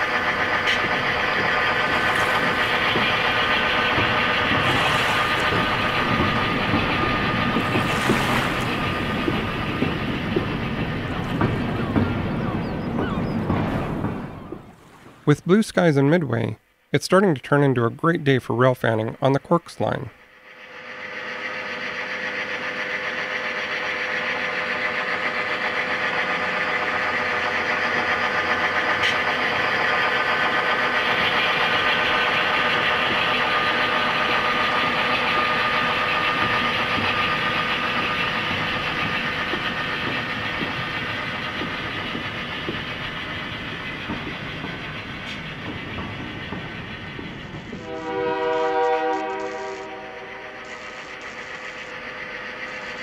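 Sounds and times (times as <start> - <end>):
diesel locomotive engine: 0.0 - 53.0.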